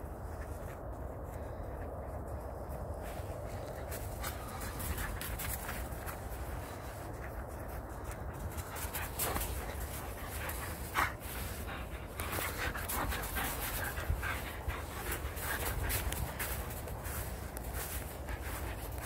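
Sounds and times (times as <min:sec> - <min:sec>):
low wind rumble on microphone: 0:00.0 - 0:19.0
footfalls crunching in grass: 0:03.0 - 0:19.0
dog panting: 0:03.2 - 0:19.0.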